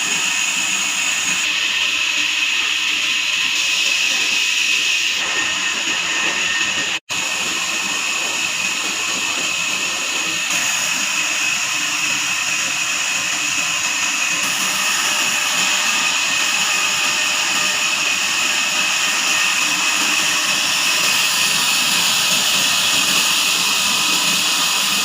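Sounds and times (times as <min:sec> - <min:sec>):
saw blade whining through log: 0:00.0 - 0:25.0.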